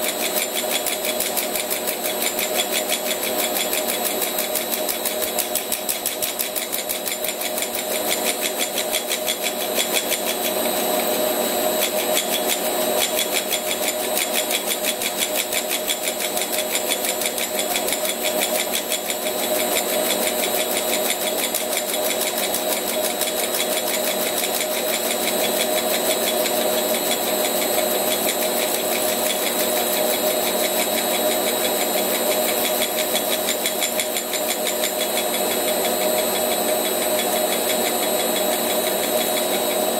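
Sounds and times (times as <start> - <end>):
machine fast regular pulse: 0.0 - 39.9.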